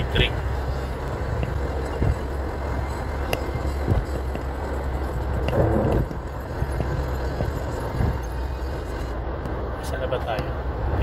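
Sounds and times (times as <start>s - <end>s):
vehicle engine and road noise: 0.0s - 11.0s
wind rush: 0.0s - 11.0s.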